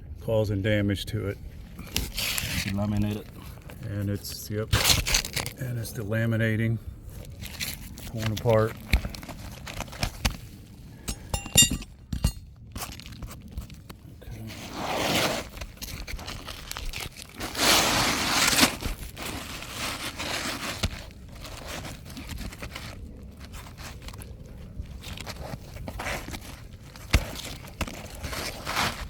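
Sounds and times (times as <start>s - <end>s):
roof shingles crunching and tearing: 1.8s - 5.7s, 7.1s - 11.0s, 12.6s - 29.0s.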